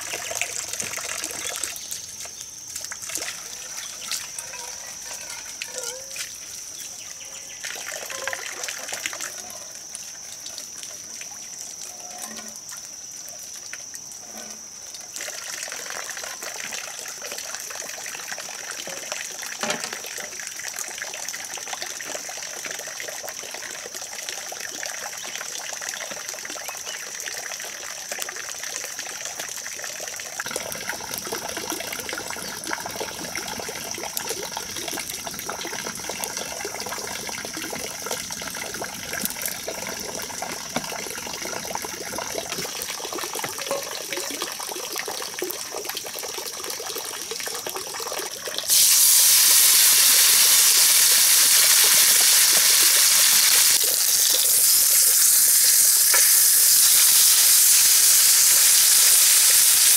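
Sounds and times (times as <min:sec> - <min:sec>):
water trickling: 0:00.0 - 0:49.1.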